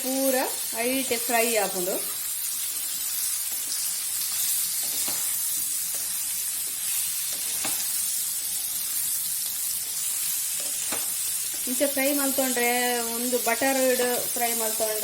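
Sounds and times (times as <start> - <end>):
okra sizzling in oil: 0.0 - 15.0.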